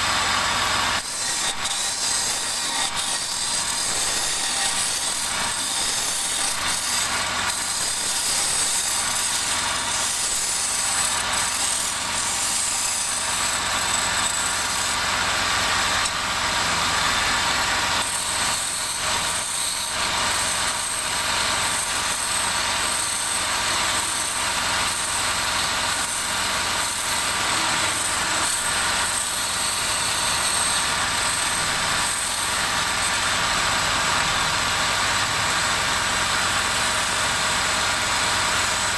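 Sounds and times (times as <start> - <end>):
lathe motor hum: 0.0 - 38.9
lathe tool scraping wood: 0.0 - 38.9.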